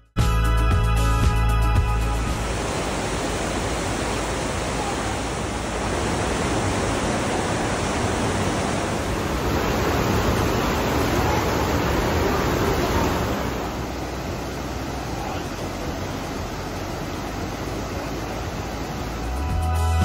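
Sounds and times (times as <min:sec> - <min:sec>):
waterfall rushing: 0:02.0 - 0:19.6.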